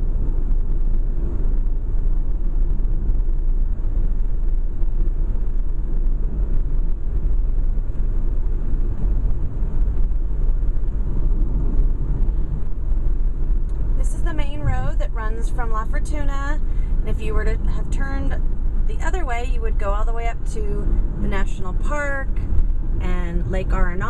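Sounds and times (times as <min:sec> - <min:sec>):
car driving on paved road: 0:00.0 - 0:24.0.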